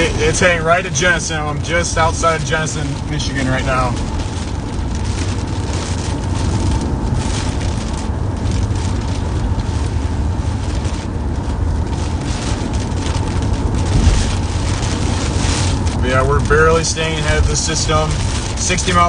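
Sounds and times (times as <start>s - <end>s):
low engine rumble: 0.0s - 19.0s
road noise inside moving car: 0.0s - 19.0s.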